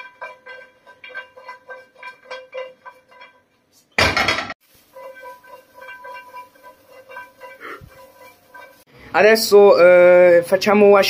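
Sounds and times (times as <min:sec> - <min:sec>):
frying pan clinking on grate: 0:00.0 - 0:08.9
loud pan clatter: 0:00.0 - 0:08.9.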